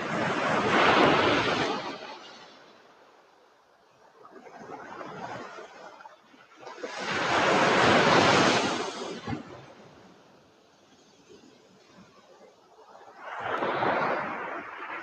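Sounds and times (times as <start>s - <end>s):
sea waves breaking: 0.0s - 15.0s.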